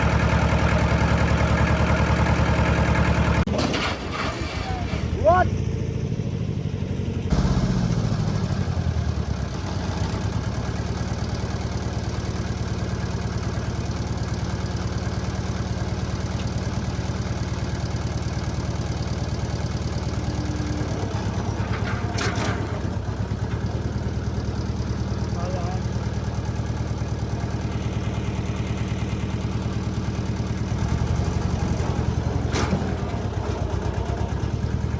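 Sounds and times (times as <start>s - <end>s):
vehicle engine revving and idling: 0.0s - 34.9s.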